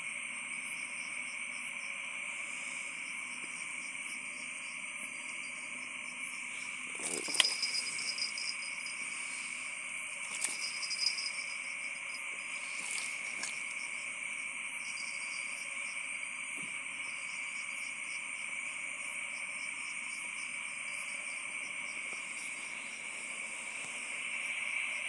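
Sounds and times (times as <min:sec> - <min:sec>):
crickets and night insects: 0:00.0 - 0:25.0.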